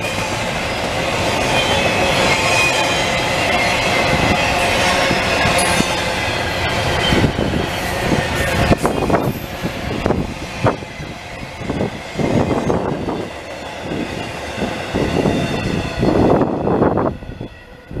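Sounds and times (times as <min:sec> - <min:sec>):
train cars clattering: 0:00.0 - 0:16.8
steady train rumble: 0:00.0 - 0:18.0.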